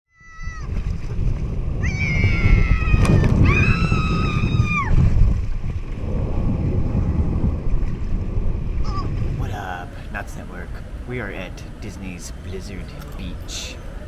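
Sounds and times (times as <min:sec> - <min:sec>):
moving water: 0:00.2 - 0:14.0
wind buffeting microphone: 0:00.2 - 0:14.0.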